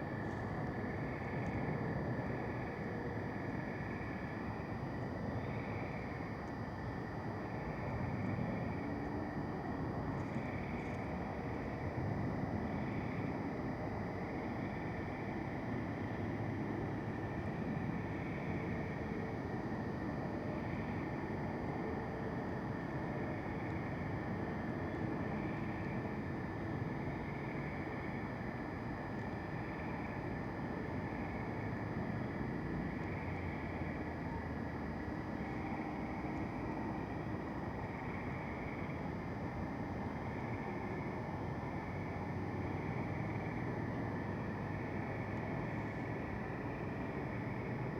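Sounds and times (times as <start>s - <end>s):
continuous low rumble: 0.0s - 47.9s.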